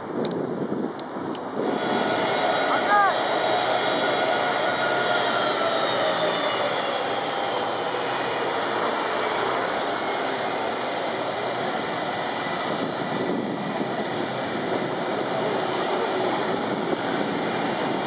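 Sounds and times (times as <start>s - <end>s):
jet engines taxiing: 0.2s - 18.0s.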